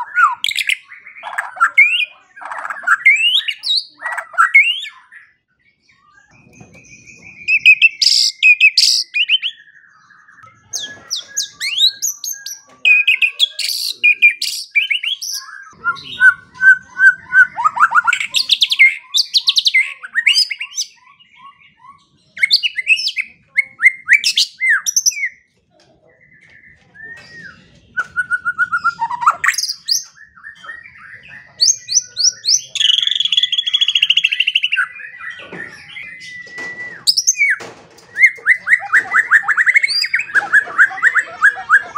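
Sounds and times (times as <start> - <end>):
bird singing whistled song: 0.0 - 25.5, 26.2 - 41.9.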